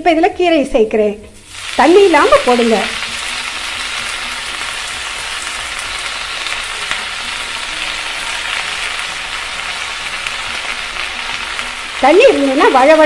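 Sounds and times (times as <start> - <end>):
leaves sizzling in hot oil: 1.3 - 13.0.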